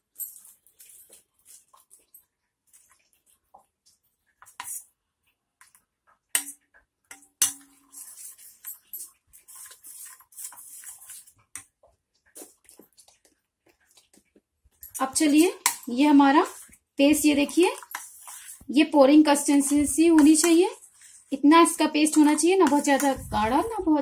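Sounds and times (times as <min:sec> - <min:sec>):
spoon stirring batter: 0:00.0 - 0:24.0.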